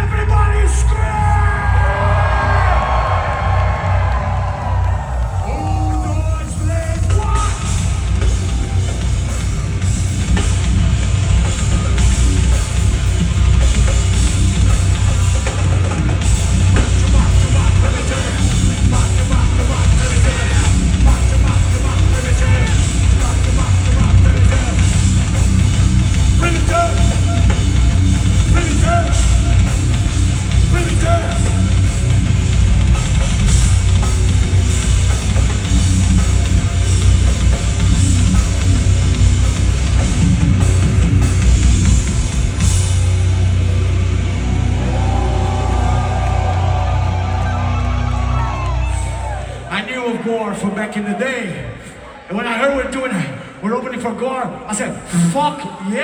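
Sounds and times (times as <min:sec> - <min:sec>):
drum kit pounding: 0:00.0 - 0:49.6
heavy metal band playing live: 0:00.0 - 0:49.6.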